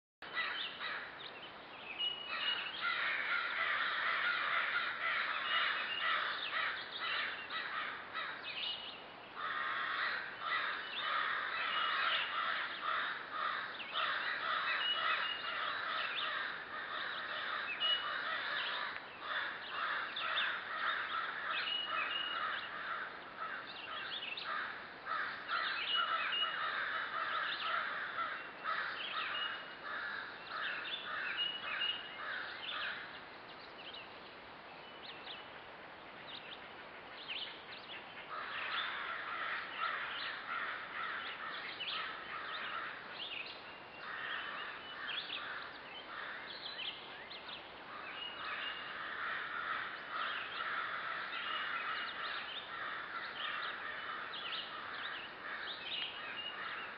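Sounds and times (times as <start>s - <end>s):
birds calling harshly: 0.2s - 34.2s, 34.8s - 56.9s.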